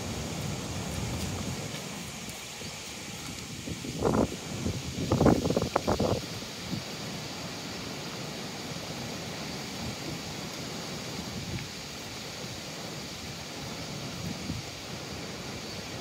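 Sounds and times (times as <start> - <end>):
wind noise on microphone: 0.0 - 8.0, 9.0 - 12.2, 12.8 - 16.0
river flowing: 0.0 - 16.0.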